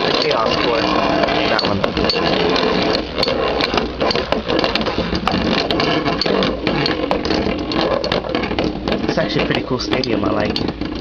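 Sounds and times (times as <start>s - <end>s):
spinning tops whirring and grinding: 0.0s - 11.0s.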